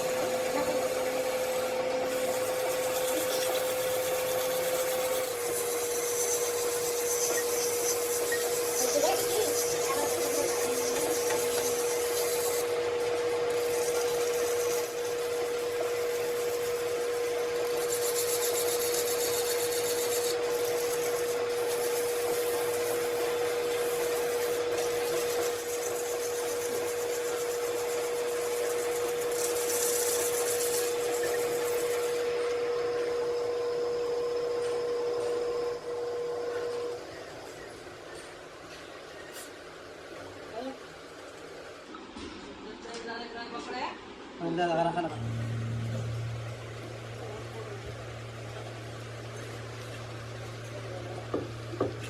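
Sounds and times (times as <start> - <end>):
machine whine: 0.0 - 39.4, 44.9 - 52.0.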